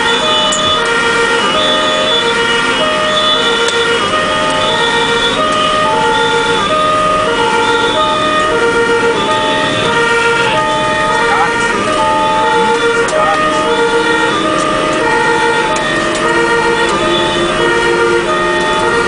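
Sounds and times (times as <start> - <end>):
two-tone fire engine siren: 0.0 - 19.0
vehicle road and engine noise: 0.0 - 19.0.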